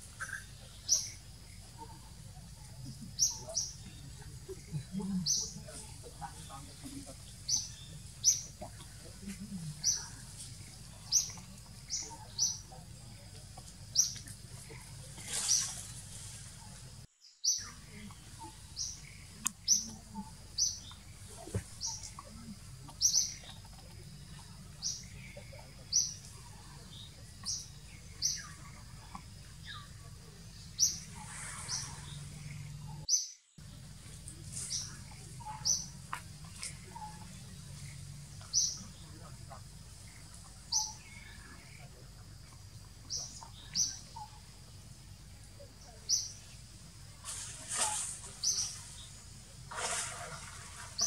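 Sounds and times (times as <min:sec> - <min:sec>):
bird chirping: 0:00.0 - 0:15.8, 0:17.2 - 0:44.8.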